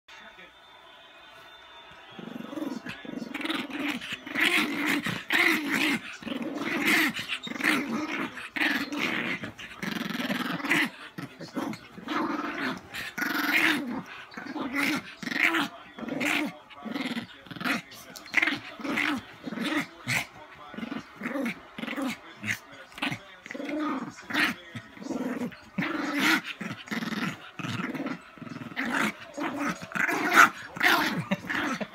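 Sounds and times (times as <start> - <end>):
small dog play-growling: 2.2 - 31.9.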